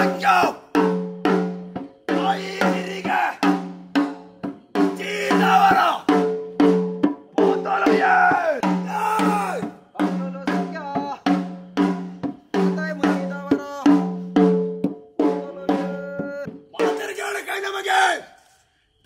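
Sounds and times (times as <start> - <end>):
drums beaten fast: 0.0 - 17.6.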